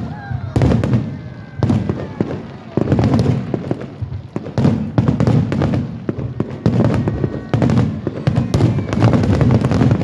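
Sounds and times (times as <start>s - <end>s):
fireworks booming: 0.0s - 10.0s
fireworks crackling: 0.0s - 10.0s.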